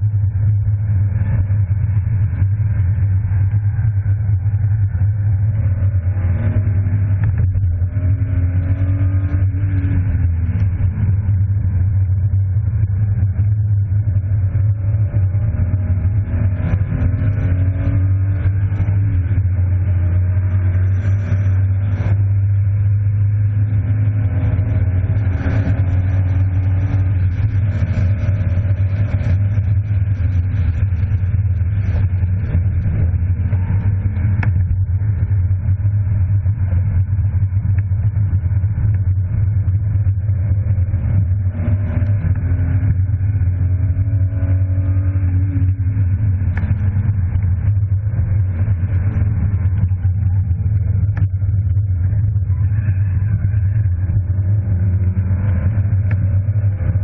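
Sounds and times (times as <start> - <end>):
car engine accelerating: 0.0 - 57.0
steady low drone: 0.0 - 57.0.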